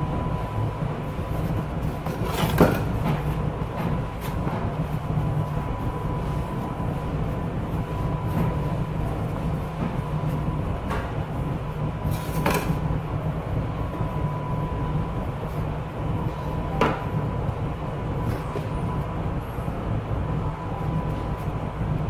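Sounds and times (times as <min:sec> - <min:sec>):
kitchen machinery rumbling: 0:00.0 - 0:22.0
thin steady whine: 0:00.0 - 0:22.0.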